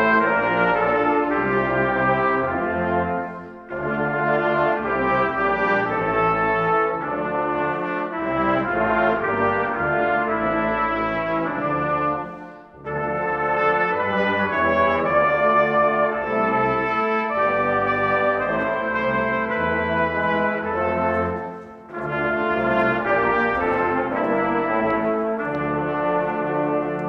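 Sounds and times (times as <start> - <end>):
brass choir playing chords: 0.0 - 27.0.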